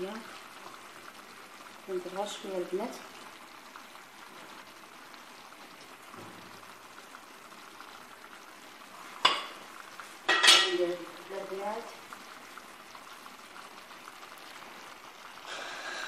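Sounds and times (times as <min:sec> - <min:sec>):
pot sizzling: 0:00.0 - 0:16.0.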